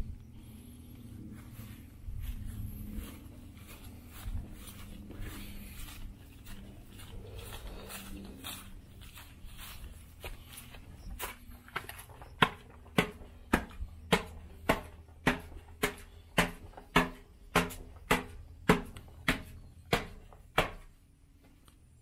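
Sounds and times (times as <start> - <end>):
footsteps on concrete stairs: 1.4 - 21.6.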